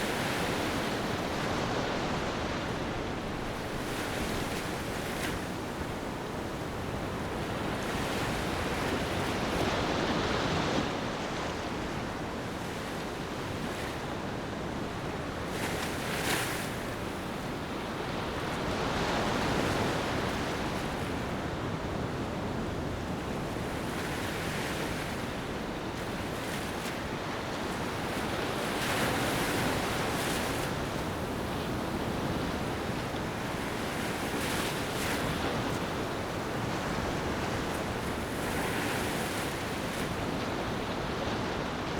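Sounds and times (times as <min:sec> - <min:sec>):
ocean waves washing onto beach: 0:00.0 - 0:41.9.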